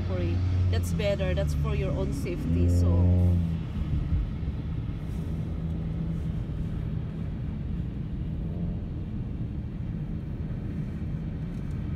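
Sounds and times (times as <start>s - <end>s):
car driving on highway: 0.0s - 11.9s.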